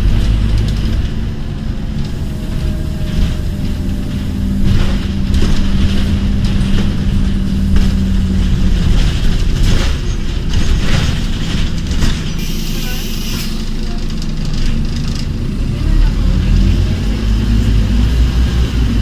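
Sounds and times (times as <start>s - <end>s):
bus body rattles: 0.0s - 19.0s
bus engine running: 0.0s - 19.0s.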